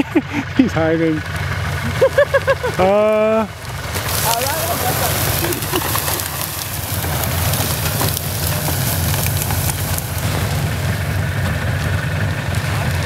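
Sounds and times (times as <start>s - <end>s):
engine running: 0.0s - 13.0s
crackling hiss of snow and brush: 1.1s - 13.0s.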